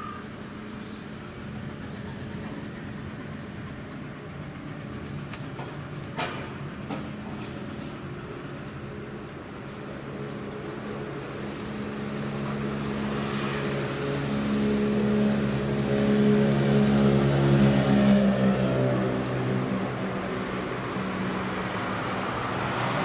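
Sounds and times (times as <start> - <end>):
large diesel engine running: 0.0 - 22.6.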